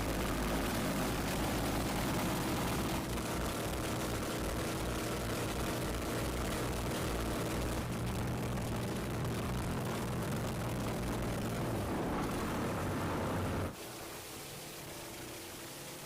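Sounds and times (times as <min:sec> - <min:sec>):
boat engine running: 0:00.0 - 0:13.8.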